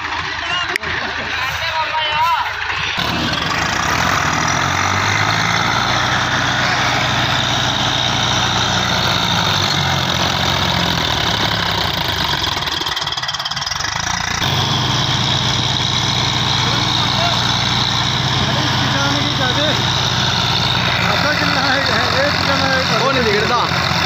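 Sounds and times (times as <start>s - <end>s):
diesel tractor engines under load: 0.0s - 24.0s.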